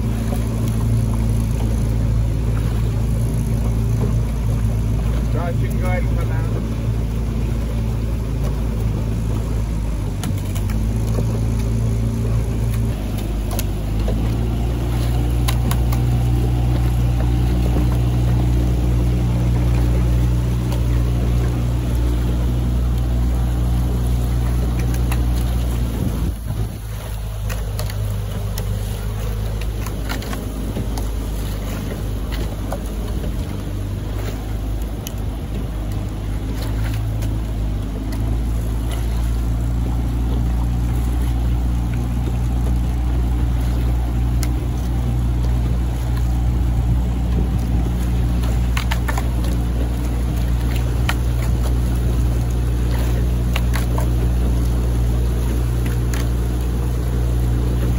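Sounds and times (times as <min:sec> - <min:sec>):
outboard motor humming: 0:00.0 - 0:57.9
water rushing past hull: 0:00.0 - 0:57.9.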